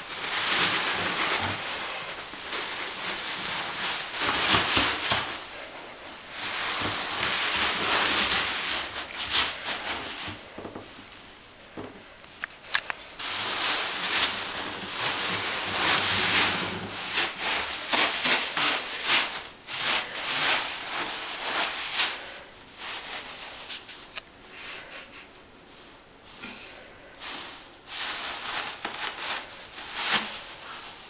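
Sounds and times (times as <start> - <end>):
foam beads rustling: 0.0 - 31.0.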